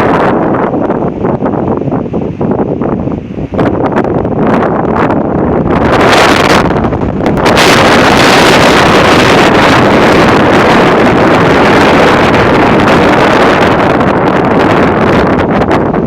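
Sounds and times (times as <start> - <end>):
strong wind gusting: 0.0 - 16.0
wind buffeting microphone: 0.0 - 16.0.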